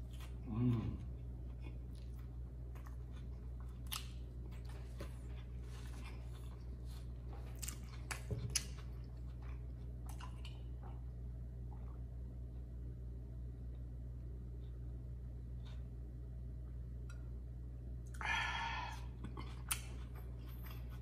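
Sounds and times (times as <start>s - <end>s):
person chewing food: 0.0s - 12.8s, 13.6s - 17.4s, 18.0s - 21.0s
steady low hum: 0.0s - 21.0s.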